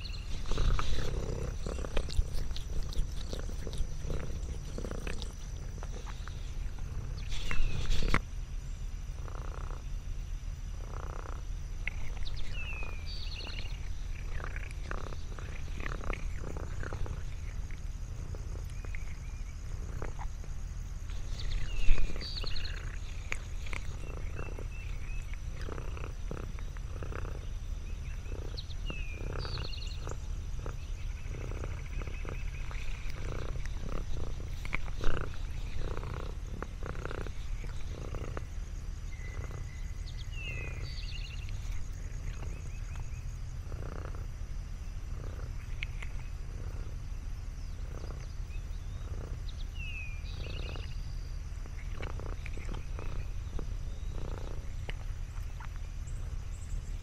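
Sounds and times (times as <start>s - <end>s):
cat purring: 0.0s - 8.2s, 9.2s - 9.8s, 10.7s - 44.4s, 45.0s - 47.0s, 47.7s - 51.0s, 51.6s - 57.0s
bird chirping: 0.0s - 8.8s, 11.8s - 44.2s, 44.8s - 57.0s.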